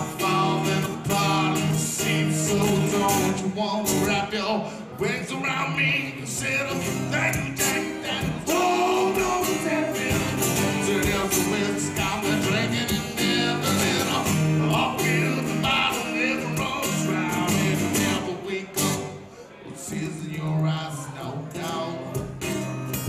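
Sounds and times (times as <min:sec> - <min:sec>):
man singing: 0:00.0 - 0:22.6
acoustic guitars strummed: 0:00.0 - 0:23.0.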